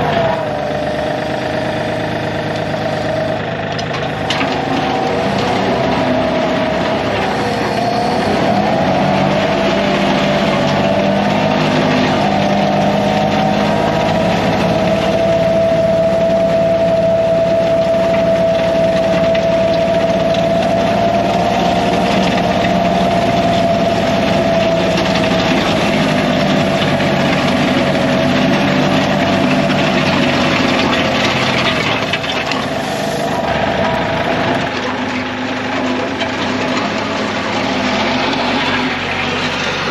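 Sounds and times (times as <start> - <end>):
engine whine: 0.0 - 39.9
tractor diesel engine under load: 0.0 - 39.9.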